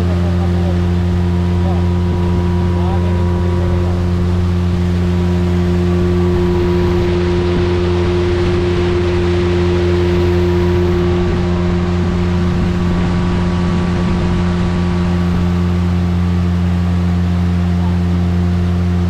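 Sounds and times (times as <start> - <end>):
rushing water and air: 0.0 - 19.0
speedboat engine running: 0.0 - 19.0.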